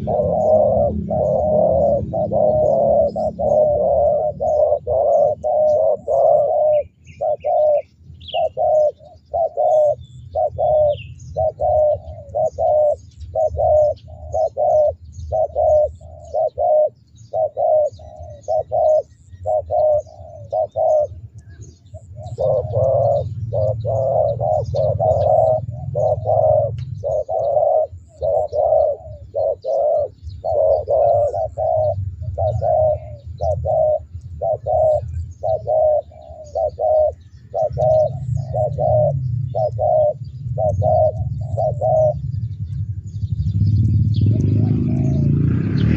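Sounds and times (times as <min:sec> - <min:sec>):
doves cooing: 0:00.0 - 0:45.9
faint small birds chirping: 0:00.0 - 0:45.9.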